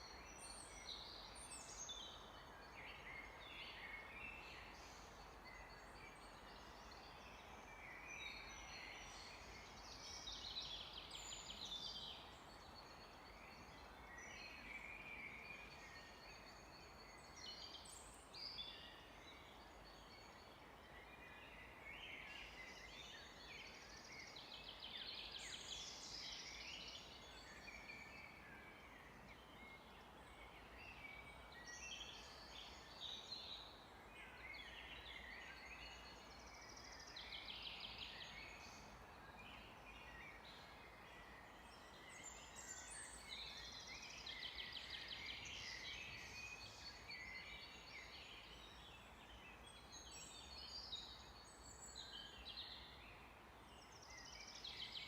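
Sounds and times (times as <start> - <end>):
songbirds singing faintly: 0.0 - 55.0.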